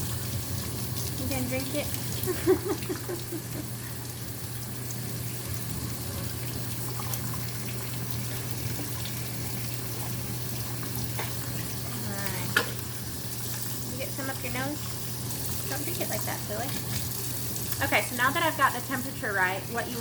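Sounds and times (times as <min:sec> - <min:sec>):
tap water running: 0:00.0 - 0:20.0.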